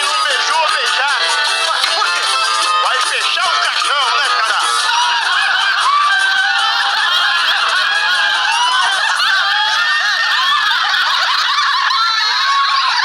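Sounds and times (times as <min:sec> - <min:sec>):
many voices laughing: 0:00.0 - 0:13.0.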